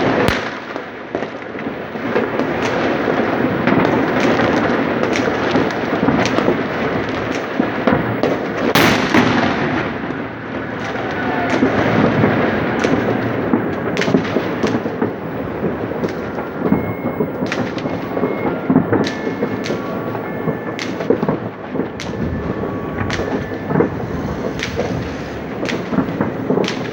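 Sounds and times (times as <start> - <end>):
firework sharp cracks: 0.0 - 26.9
fireworks rumble of bangs: 0.0 - 26.9.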